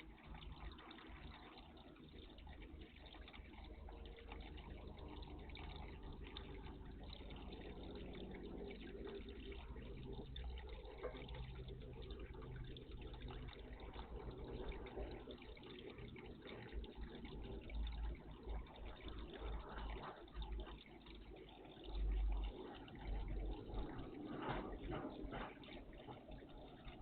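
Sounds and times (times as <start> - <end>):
water splashing in a bird bath: 0.0 - 27.0.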